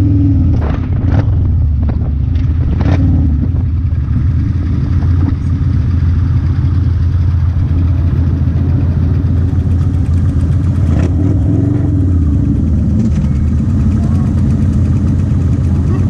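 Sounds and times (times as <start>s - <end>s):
motorcycle engine drone: 0.0s - 16.0s.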